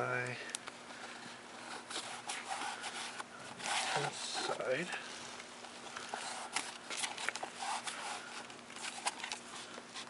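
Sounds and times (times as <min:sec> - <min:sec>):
cloth tape rustling: 0:00.0 - 0:10.0.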